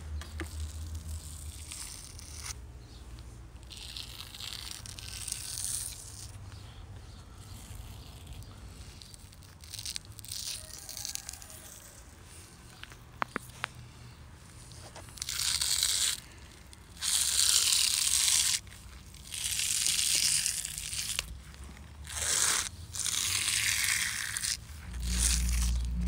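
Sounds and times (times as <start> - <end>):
membrane peeling off raw liver: 0.2 - 3.0, 3.6 - 13.4, 14.6 - 26.0.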